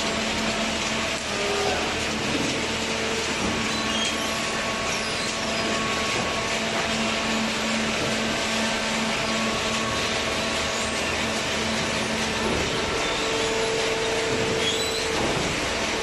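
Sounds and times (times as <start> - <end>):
continuous mechanical whir: 0.0 - 16.0
hydraulic motor and pump hum: 0.0 - 16.0.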